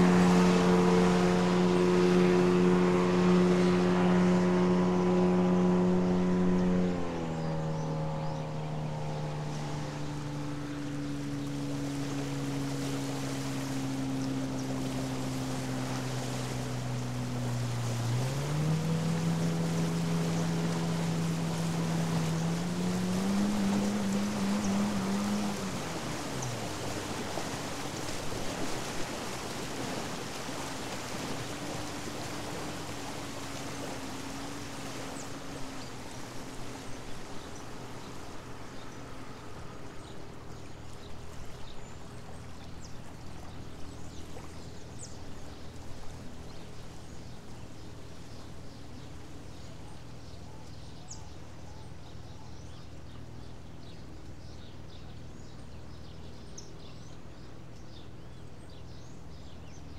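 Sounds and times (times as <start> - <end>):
boat engine droning: 0.0 - 59.9
water wash from wake: 0.0 - 59.9.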